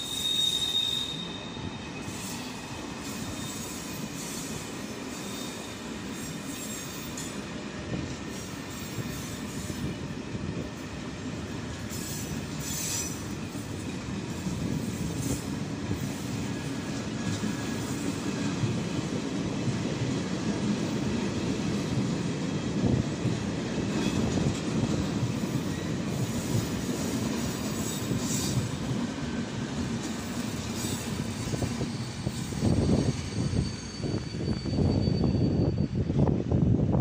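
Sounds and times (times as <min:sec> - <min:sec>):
train wheels squealing: 0:00.0 - 0:36.9
train coaches rumbling on tracks: 0:00.0 - 0:37.0.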